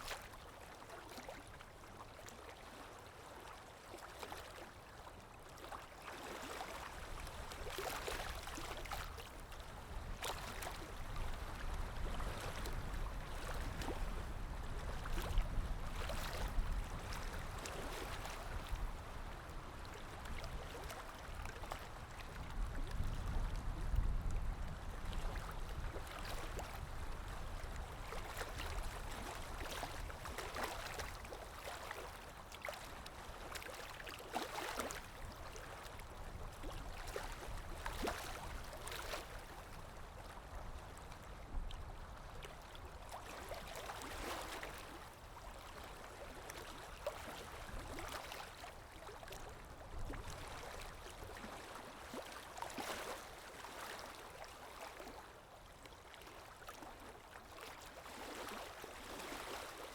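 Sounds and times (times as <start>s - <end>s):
low rumble of water: 0.0s - 59.9s
waves lapping gently: 0.0s - 59.9s.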